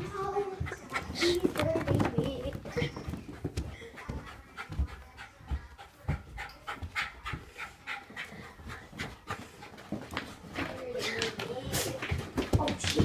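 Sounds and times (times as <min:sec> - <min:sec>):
dog panting: 0:00.1 - 0:12.3.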